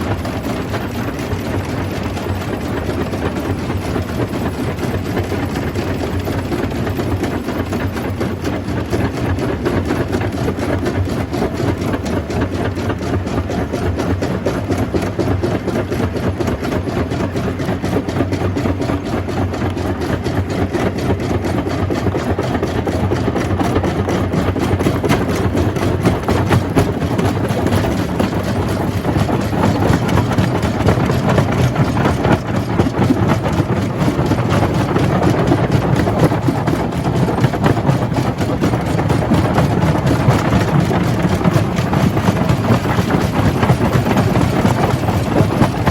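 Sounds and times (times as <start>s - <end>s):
crusher machine droning and rattling: 0.0s - 45.9s.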